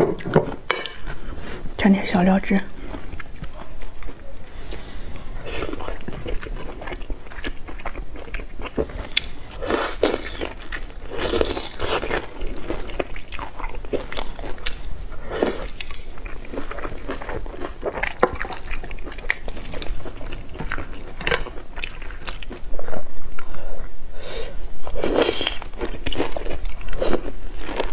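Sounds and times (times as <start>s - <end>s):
biting and chewing: 2.8s - 23.5s, 24.9s - 27.9s.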